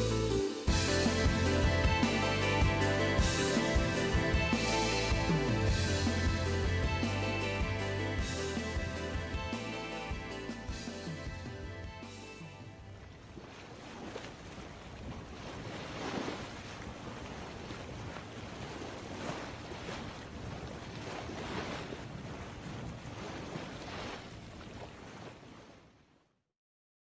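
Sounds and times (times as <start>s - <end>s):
ocean waves washing in: 0.0s - 26.1s.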